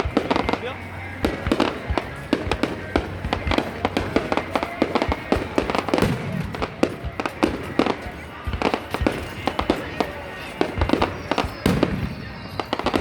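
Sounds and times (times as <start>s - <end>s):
fireworks bangs and crackles: 0.0s - 13.0s
music playing: 0.0s - 13.0s.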